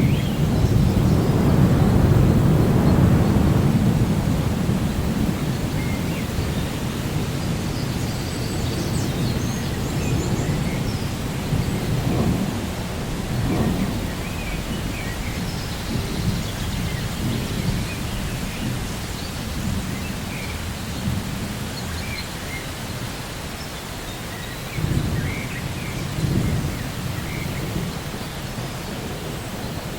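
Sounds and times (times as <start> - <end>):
low thunder rumble: 0.0 - 29.9
rain hiss: 0.0 - 29.9.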